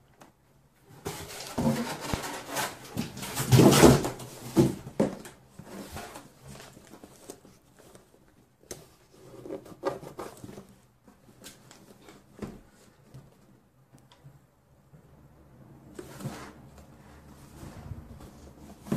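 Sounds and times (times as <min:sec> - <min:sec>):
cardboard and paper rustling: 0:00.9 - 0:13.6, 0:16.0 - 0:18.9.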